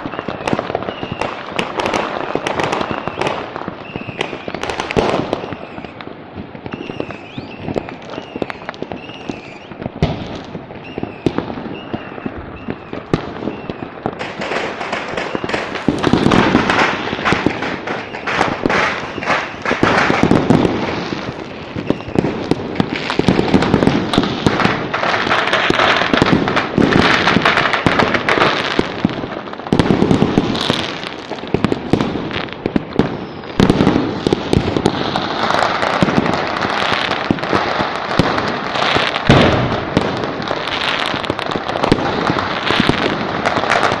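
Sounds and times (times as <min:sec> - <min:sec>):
firecrackers and fireworks crackling: 0:00.0 - 0:44.0.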